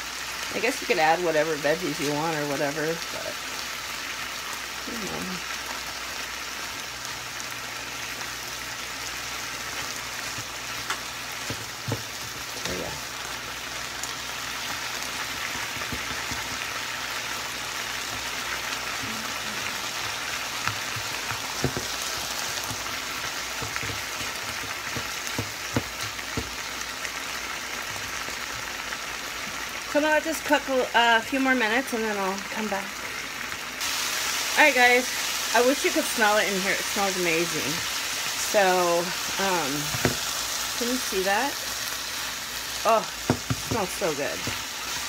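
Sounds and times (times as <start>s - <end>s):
vegetables and chicken sizzling in pan: 0.0s - 45.0s.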